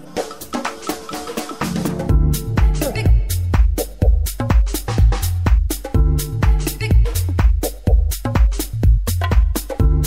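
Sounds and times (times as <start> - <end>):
percussion hits: 0.0 - 6.6, 7.4 - 10.0
bass line: 1.7 - 10.0.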